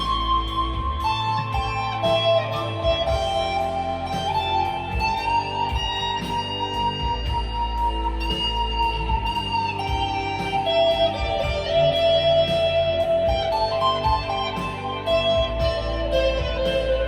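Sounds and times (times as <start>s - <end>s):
electric guitar held notes: 0.0s - 17.0s.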